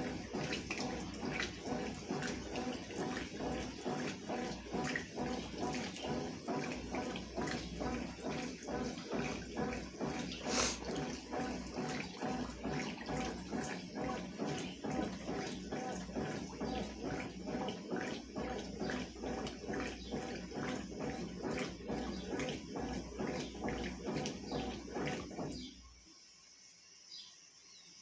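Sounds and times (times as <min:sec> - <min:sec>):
water sloshing in a tub: 0:00.0 - 0:26.0
washing machine agitating: 0:00.0 - 0:26.1.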